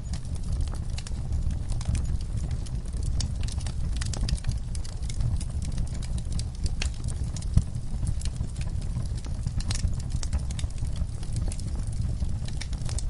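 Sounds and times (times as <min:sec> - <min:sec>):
fireplace fire crackling: 0:00.0 - 0:13.0.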